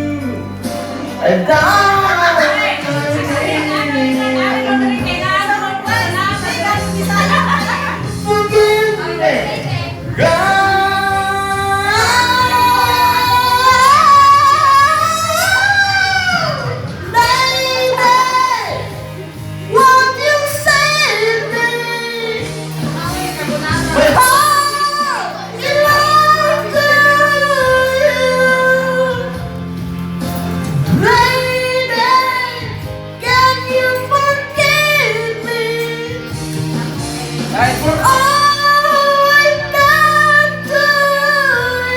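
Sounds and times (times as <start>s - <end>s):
power ballad with high singing voice: 0.0s - 41.9s.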